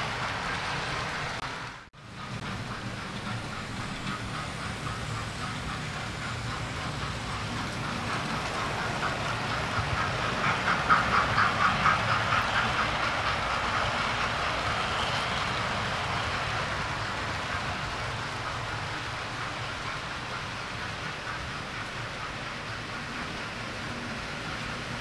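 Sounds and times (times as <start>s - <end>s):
model train wheels clicking on rails: 0.0s - 25.0s.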